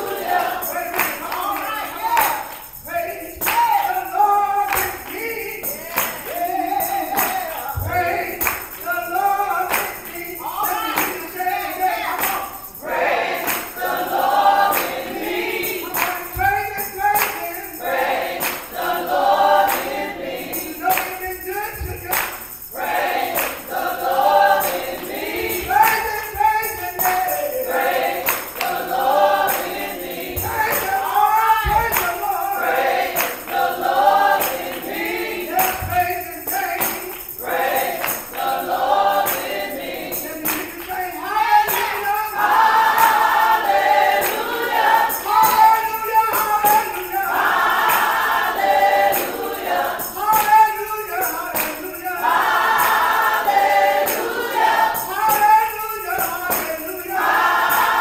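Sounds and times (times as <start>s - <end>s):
hand clapping: 0.0s - 58.0s
women's choir singing gospel: 0.0s - 58.0s.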